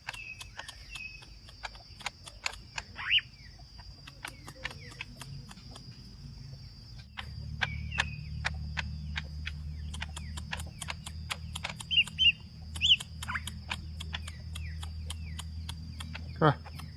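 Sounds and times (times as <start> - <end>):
bird singing clicking notes: 0.0 - 16.9.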